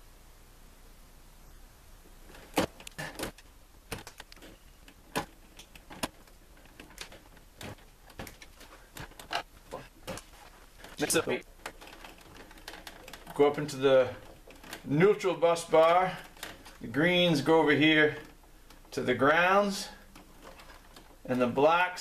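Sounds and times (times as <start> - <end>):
wire strippers clicking: 2.2 - 22.0.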